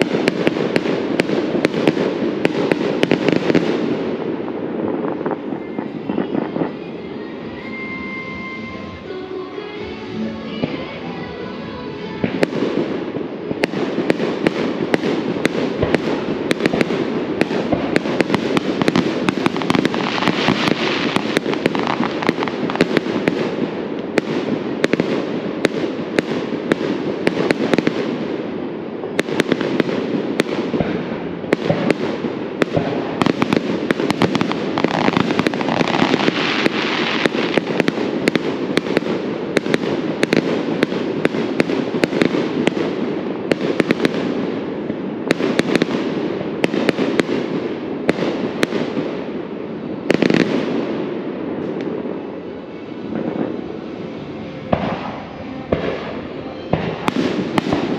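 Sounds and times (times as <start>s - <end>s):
fireworks popping and crackling: 0.0s - 9.1s, 11.9s - 57.9s
steady background noise: 0.0s - 57.9s.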